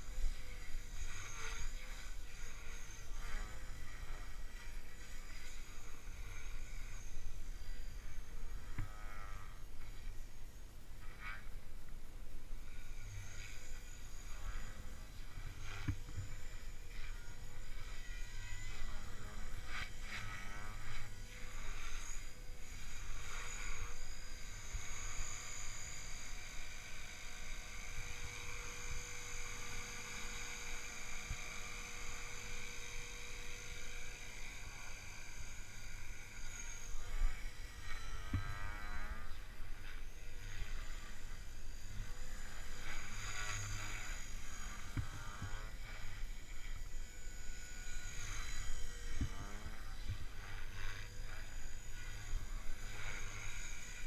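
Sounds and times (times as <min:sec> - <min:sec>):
helicopter motor and rotor whine: 0:00.0 - 0:54.0.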